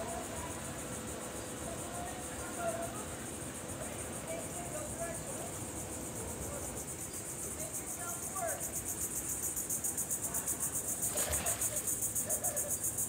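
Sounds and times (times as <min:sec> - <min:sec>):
faint distant voices: 0:00.0 - 0:13.0
high-pitched pulsing insect chorus: 0:00.0 - 0:13.0.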